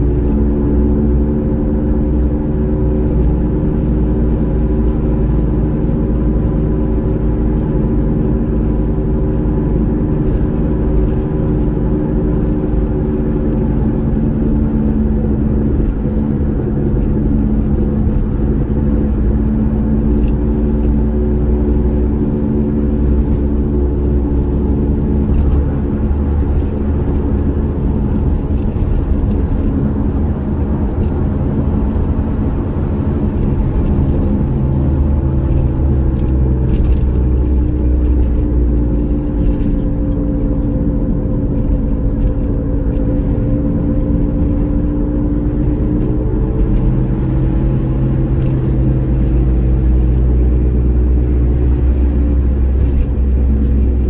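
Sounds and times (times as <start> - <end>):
car engine hum: 0.0 - 54.0
road rumble: 0.0 - 54.0.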